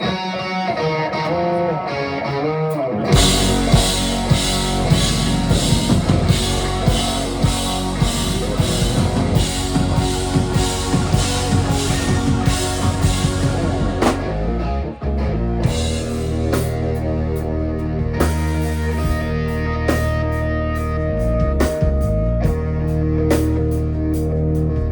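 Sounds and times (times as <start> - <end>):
melodic electric guitar line: 0.0 - 24.9
rock band playing live: 0.0 - 24.9
drum kit: 3.1 - 14.6, 15.6 - 22.7, 23.3 - 24.9.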